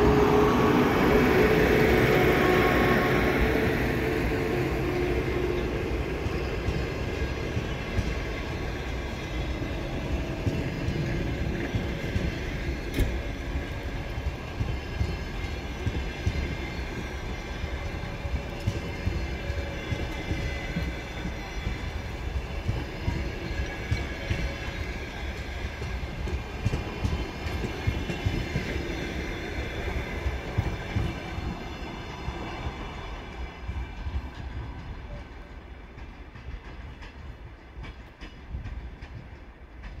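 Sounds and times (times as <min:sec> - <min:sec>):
train wheels rumbling and clattering: 0:00.0 - 0:40.0.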